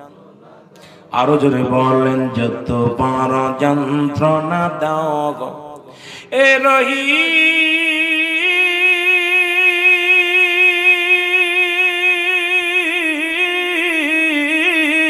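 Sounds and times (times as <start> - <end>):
man singing long vowel: 1.1 - 15.0.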